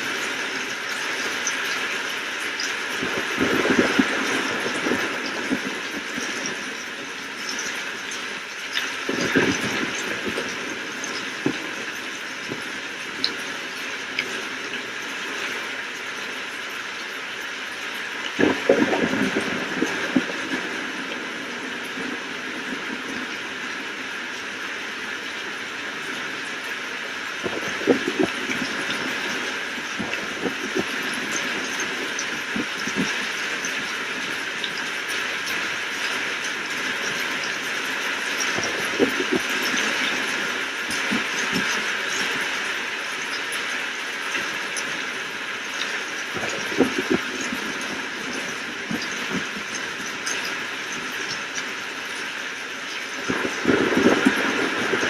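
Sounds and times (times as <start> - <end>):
heavy raindrops tapping: 0.0 - 55.0
rain hissing: 0.0 - 55.0.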